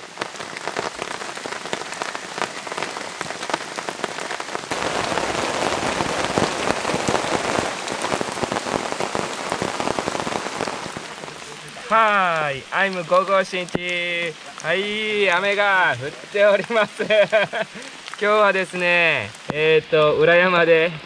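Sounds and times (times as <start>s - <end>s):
rain pattering in forest: 0.0s - 21.0s
rain pattering on a tarp: 0.0s - 21.0s.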